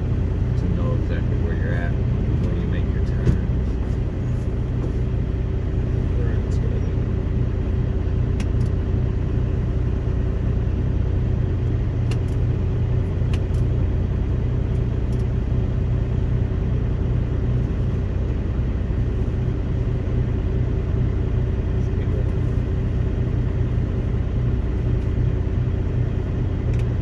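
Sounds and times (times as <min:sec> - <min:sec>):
road noise: 0:00.0 - 0:27.0
truck diesel engine rumble: 0:00.0 - 0:27.0.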